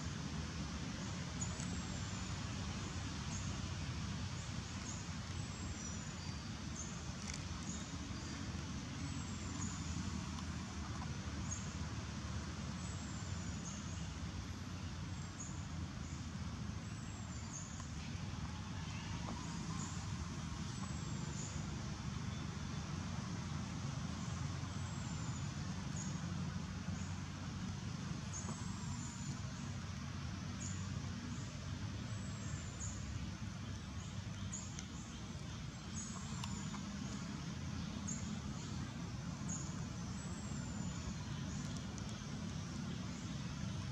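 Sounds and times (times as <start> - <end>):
distant road traffic rumble: 0.0 - 43.9.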